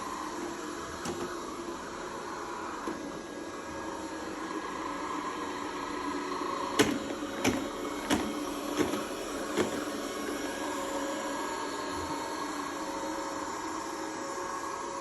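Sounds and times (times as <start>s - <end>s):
robot vacuum motor hum: 0.0s - 15.0s.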